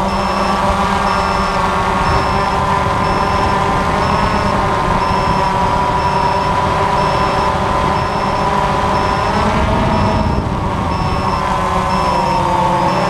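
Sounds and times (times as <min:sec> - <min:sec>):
drone propellers whining: 0:00.0 - 0:13.0
faint short high beep: 0:00.1 - 0:13.0.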